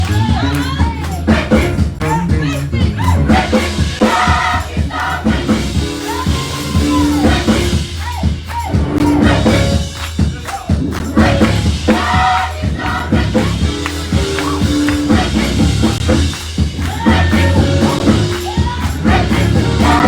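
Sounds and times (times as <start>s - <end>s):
band with bass and percussion: 0.0s - 20.0s
voices singing gospel: 0.0s - 20.0s.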